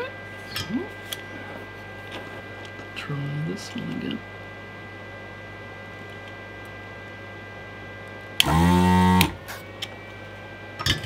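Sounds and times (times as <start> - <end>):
vacuum pump buzzing: 0.0 - 11.0.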